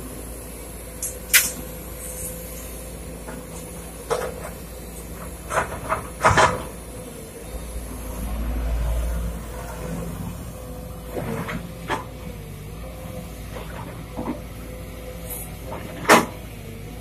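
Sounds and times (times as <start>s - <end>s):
excavator diesel engine: 0.0s - 17.0s
steady hydraulic whine: 0.0s - 17.0s.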